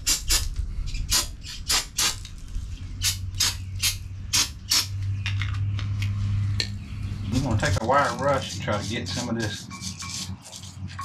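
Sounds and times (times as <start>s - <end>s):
low hum: 0.1s - 11.0s.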